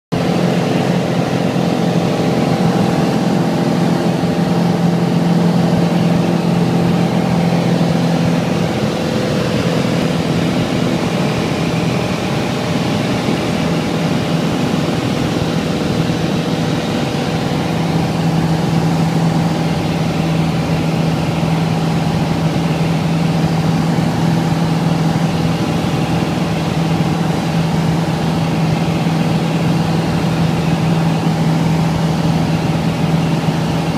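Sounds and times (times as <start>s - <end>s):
light aircraft engine droning: 0.1s - 33.9s.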